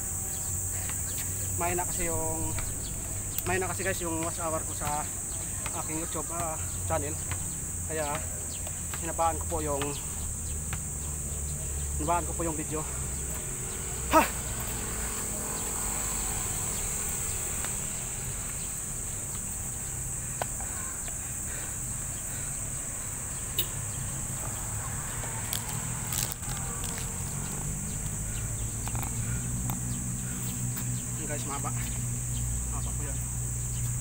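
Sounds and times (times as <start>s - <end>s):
insects droning: 0.0s - 34.0s
low traffic rumble: 0.0s - 34.0s.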